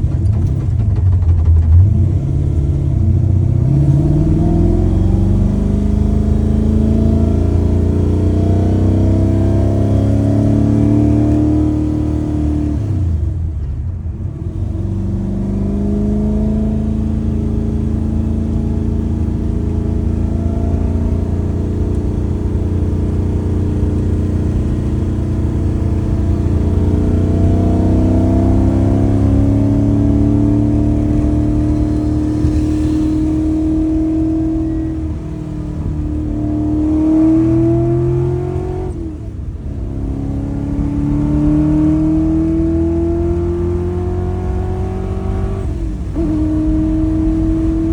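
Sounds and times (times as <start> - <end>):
engine exhaust revving: 0.0 - 13.6, 14.2 - 47.9.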